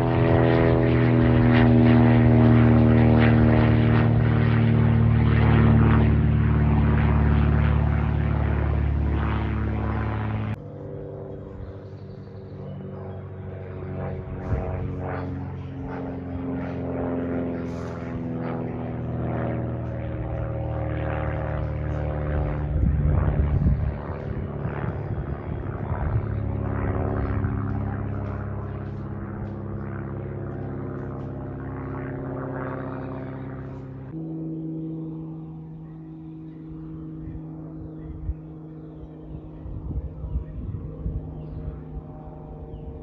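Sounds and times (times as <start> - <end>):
propeller aircraft passing overhead: 0.0 - 43.0.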